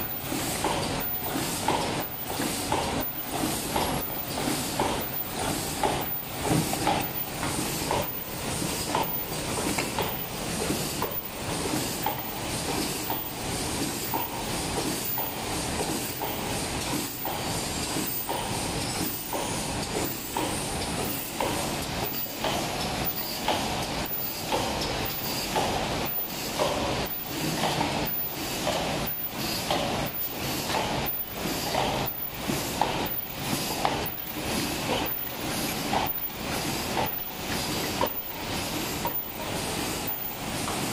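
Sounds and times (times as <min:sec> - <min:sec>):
machine clattering: 0:00.0 - 0:40.9.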